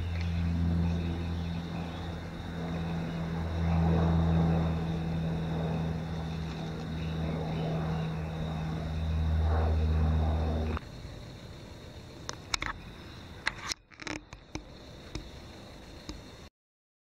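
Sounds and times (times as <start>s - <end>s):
propeller airliner drone overhead: 0.0s - 16.5s.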